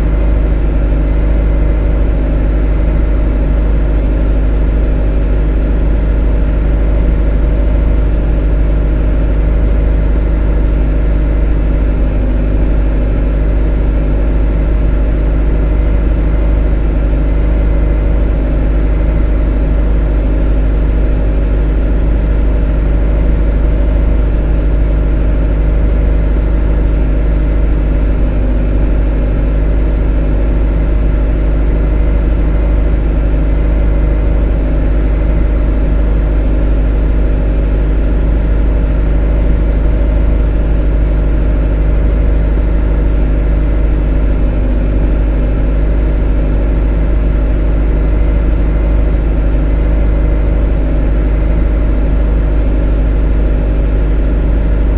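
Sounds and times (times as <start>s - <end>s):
motor droning steadily: 0.0s - 54.9s.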